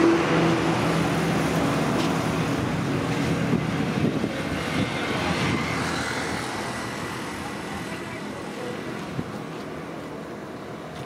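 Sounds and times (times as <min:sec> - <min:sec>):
passing vehicle engine and tyres: 0:00.0 - 0:11.0.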